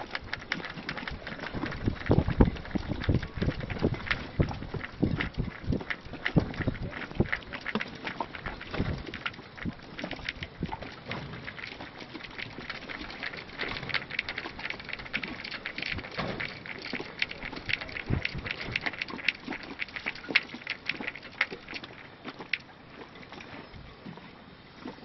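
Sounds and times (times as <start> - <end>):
waves lapping against boat hull: 0.0 - 25.0.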